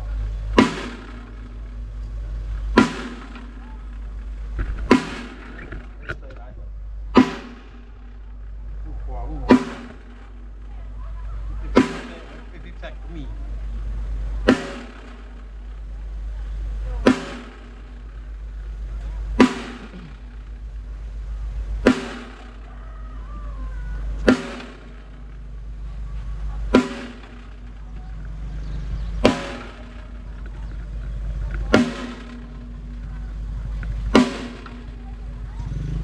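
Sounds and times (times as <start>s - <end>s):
drum hits ringing out: 0.0s - 36.0s
steady low hum: 0.0s - 36.0s.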